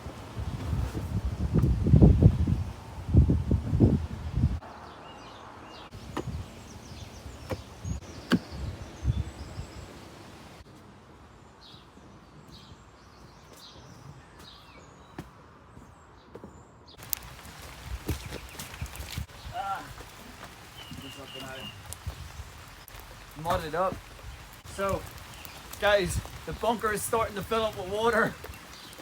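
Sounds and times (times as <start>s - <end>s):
small birds chirping: 4.4s - 10.7s, 11.4s - 29.0s.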